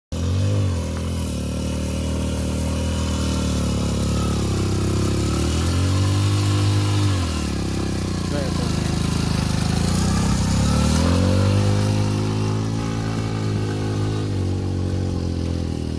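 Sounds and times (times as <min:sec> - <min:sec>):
motorcycle engine revving: 0:00.1 - 0:15.9.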